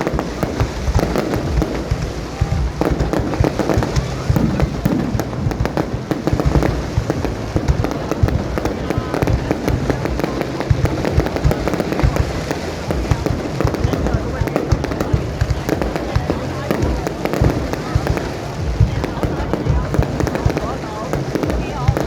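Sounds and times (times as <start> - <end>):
fireworks booming and cracking: 0.0 - 22.0
fireworks crackling: 0.0 - 22.0.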